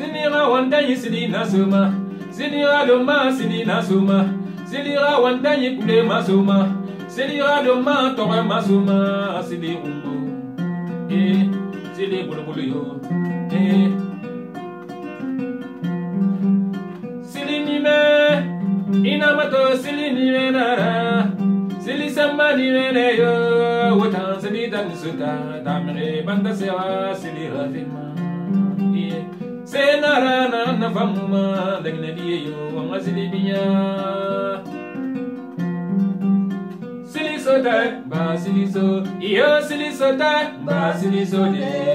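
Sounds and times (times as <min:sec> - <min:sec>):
man singing: 0:00.0 - 0:14.3, 0:17.2 - 0:35.0, 0:37.0 - 0:41.9
kora plucked: 0:00.0 - 0:41.9.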